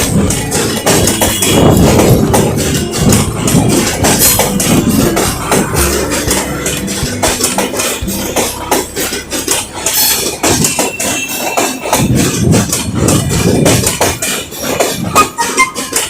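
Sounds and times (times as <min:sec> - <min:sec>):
loud low din: 0:00.0 - 0:14.4
knocks and clanks: 0:00.0 - 0:16.0.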